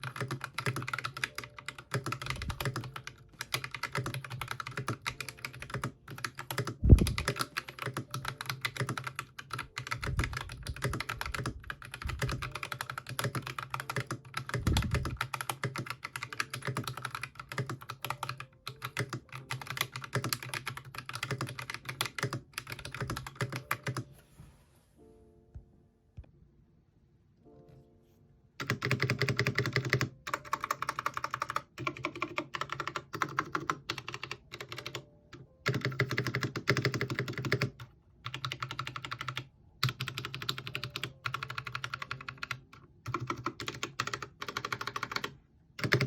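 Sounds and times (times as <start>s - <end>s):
mechanical keyboard typing: 0.0s - 24.1s, 28.6s - 46.0s.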